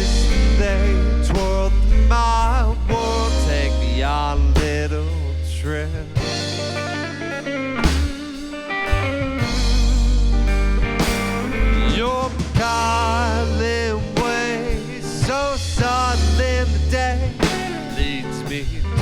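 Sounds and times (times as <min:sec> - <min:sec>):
bass: 0:00.0 - 0:19.0
drums: 0:00.0 - 0:19.0
electric guitar lead lines: 0:00.0 - 0:19.0.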